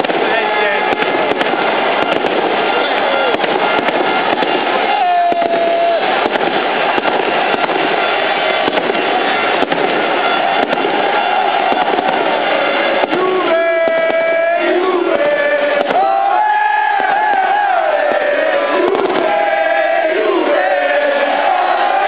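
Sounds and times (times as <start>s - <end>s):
crowd shouting: 0.0s - 22.0s
fireworks and firecrackers banging: 0.0s - 22.0s.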